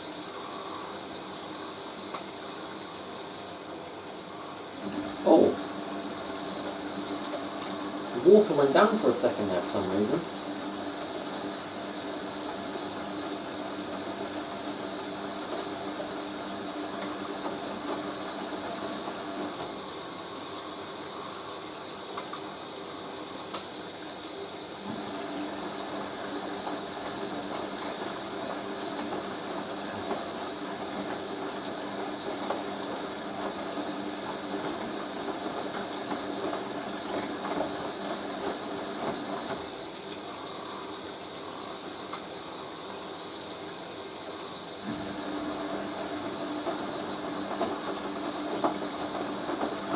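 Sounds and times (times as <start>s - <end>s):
water running into washing machine: 0.0s - 49.9s.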